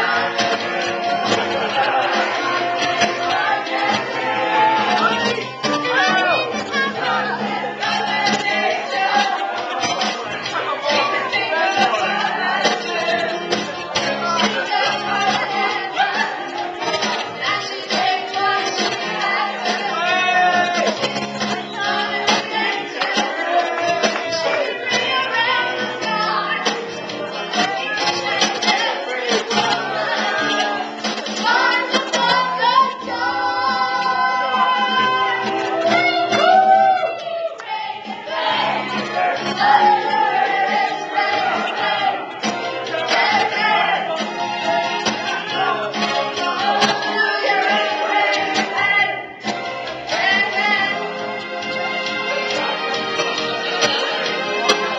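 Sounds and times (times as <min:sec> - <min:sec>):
music with singing: 0:00.0 - 0:54.9.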